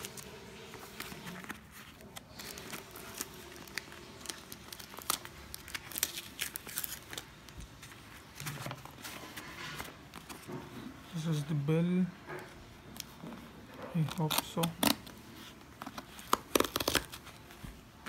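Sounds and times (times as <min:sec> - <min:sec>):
cardboard packaging crinkling: 0:00.0 - 0:10.5, 0:13.9 - 0:18.0.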